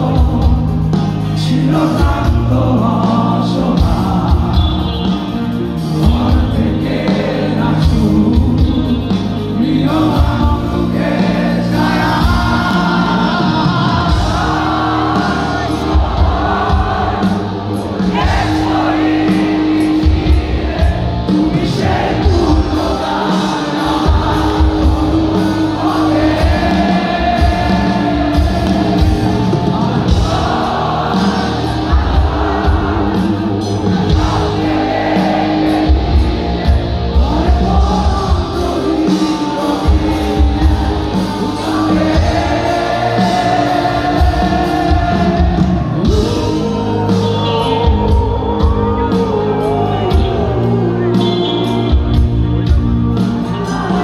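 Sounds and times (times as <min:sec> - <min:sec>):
loud guitars: 0:00.0 - 0:54.0
person singing: 0:00.0 - 0:54.0
pounding drum beat: 0:00.0 - 0:54.0
rock band playing live: 0:00.0 - 0:54.0.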